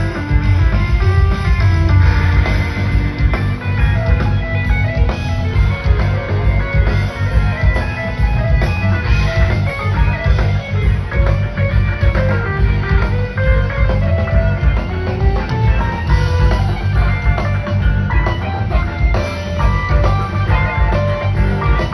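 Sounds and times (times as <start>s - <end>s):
bass guitar: 0.0s - 21.9s
drums: 0.0s - 21.9s
electric guitar lead line: 0.0s - 21.9s.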